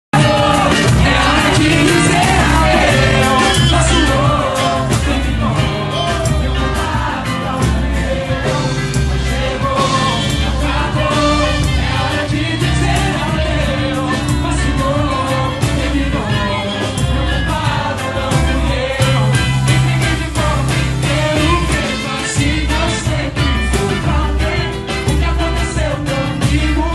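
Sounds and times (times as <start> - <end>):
person singing lead: 0.2 - 26.9
samba band playing: 0.2 - 26.9.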